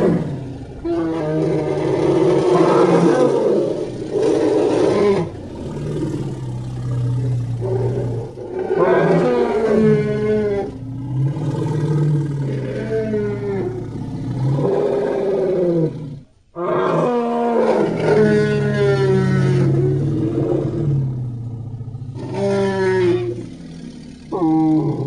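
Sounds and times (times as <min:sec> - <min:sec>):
animal-like roars: 0:00.0 - 0:25.0.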